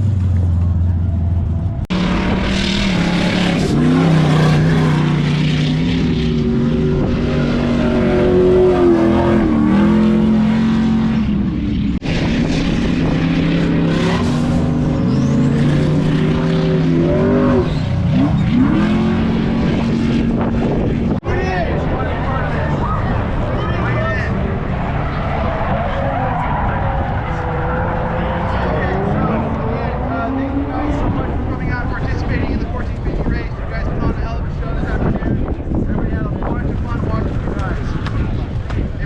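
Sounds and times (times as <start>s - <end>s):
car engines revving: 0.0s - 39.0s.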